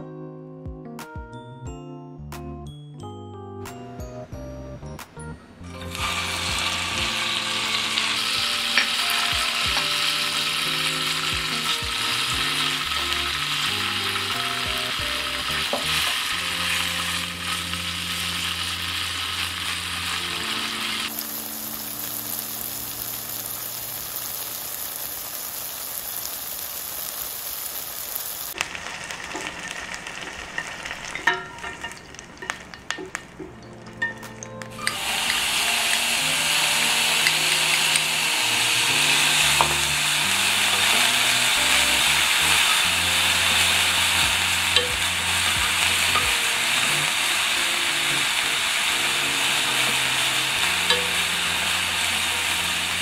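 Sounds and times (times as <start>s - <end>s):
light background music: 0.0s - 24.9s, 33.3s - 53.0s
tofu sizzling in oil: 5.8s - 33.2s, 34.7s - 53.0s.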